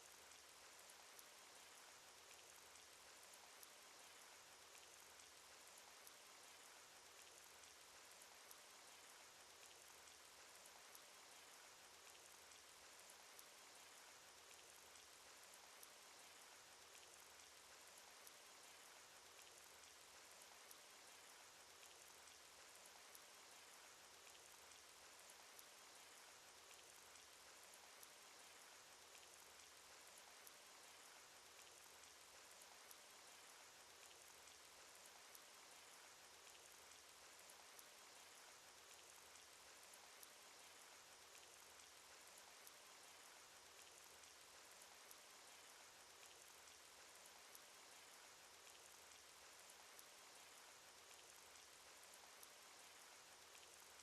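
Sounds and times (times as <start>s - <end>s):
faint rain hiss: 0.0s - 54.0s
raindrops ticking: 8.4s - 54.0s.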